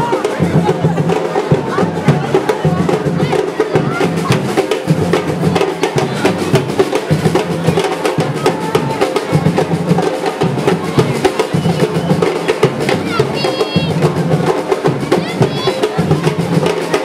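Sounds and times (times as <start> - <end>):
drums beating fast: 0.0 - 17.0.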